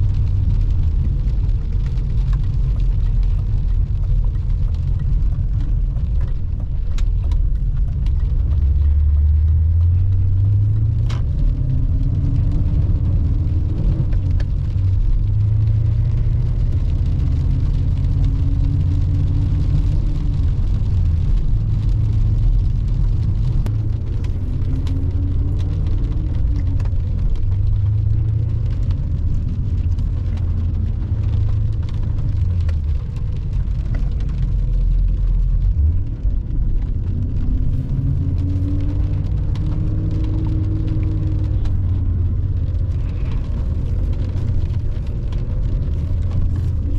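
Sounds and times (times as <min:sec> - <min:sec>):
car engine accelerating: 0:00.0 - 0:46.9.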